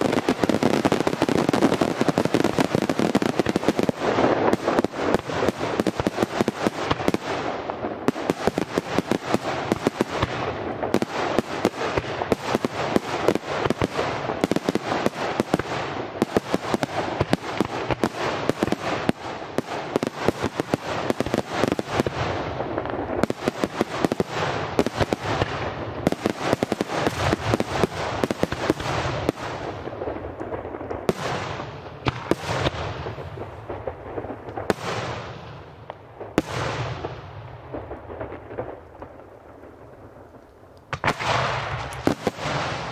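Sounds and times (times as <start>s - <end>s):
fireworks bursts and crackling: 0.0s - 42.9s.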